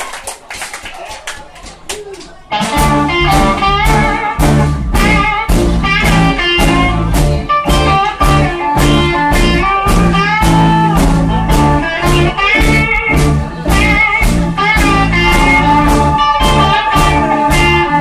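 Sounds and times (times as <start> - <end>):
blues band playing: 2.3 - 18.0.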